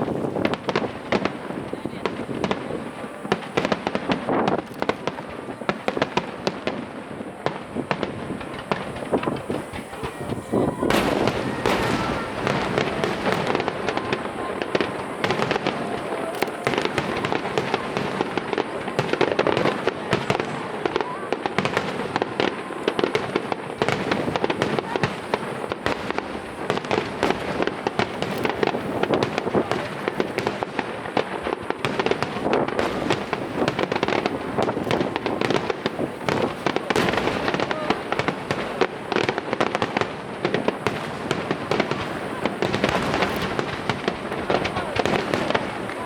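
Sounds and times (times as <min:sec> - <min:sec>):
fireworks bursting and crackling: 0:00.0 - 0:46.0.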